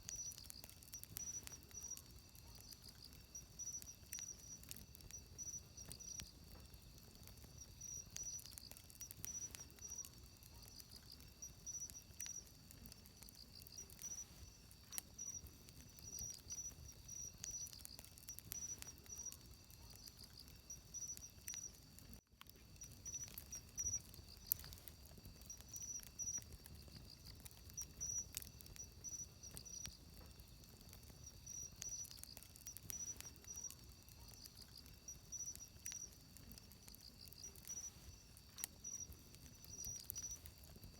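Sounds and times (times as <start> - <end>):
campfire crackling and popping: 0.0 - 40.9
insects chirping in trills: 0.0 - 40.9.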